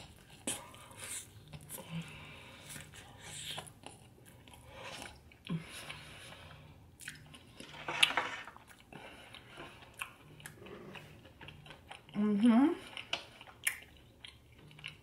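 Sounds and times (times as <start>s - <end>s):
chewing and biting food: 0.0s - 12.2s, 12.8s - 15.0s.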